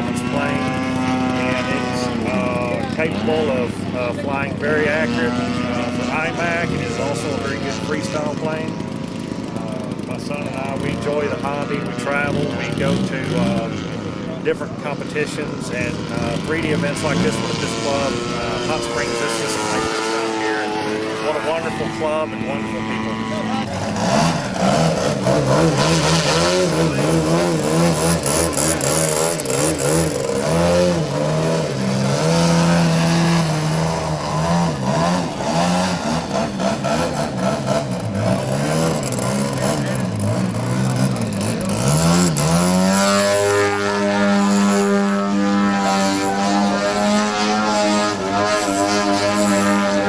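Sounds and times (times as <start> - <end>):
model airplane engine: 0.0 - 50.0.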